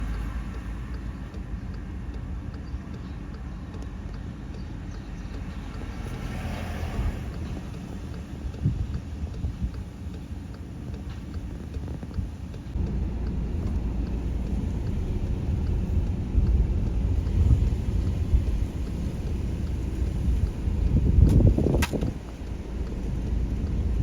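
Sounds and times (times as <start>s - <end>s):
strong wind buffeting microphone: 2.4s - 24.0s.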